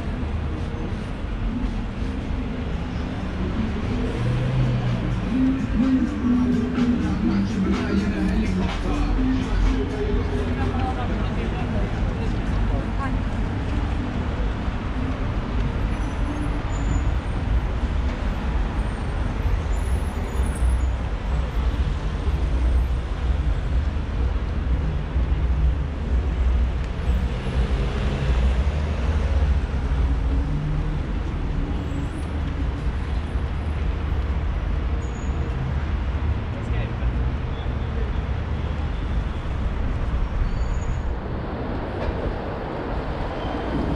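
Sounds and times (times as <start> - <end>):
buses and cars passing: 0.0 - 43.9
low traffic rumble: 0.0 - 43.9.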